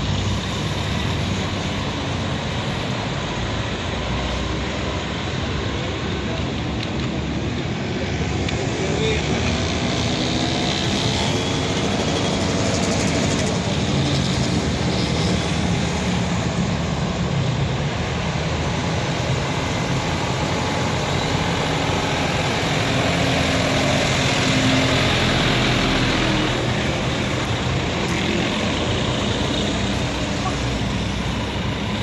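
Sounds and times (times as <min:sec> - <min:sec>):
bus engines droning: 0:00.0 - 0:32.0
road traffic: 0:00.0 - 0:32.0.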